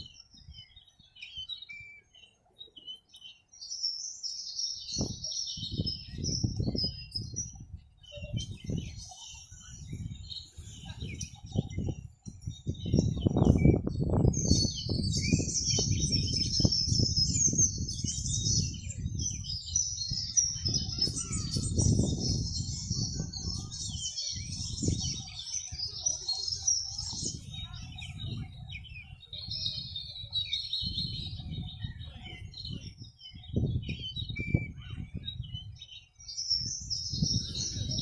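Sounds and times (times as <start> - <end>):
small birds chirping and twittering: 0.0 - 38.0.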